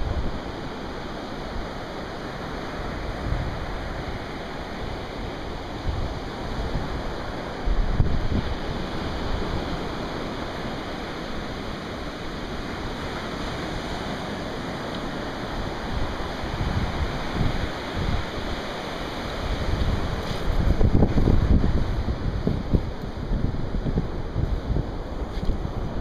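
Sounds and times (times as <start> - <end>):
surf breaking on a beach: 0.0 - 26.0.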